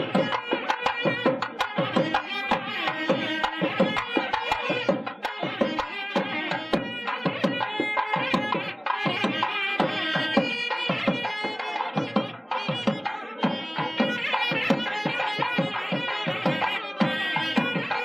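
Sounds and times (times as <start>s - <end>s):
loud held melody: 0.0s - 18.0s
rapid hand drum strokes: 0.0s - 18.0s.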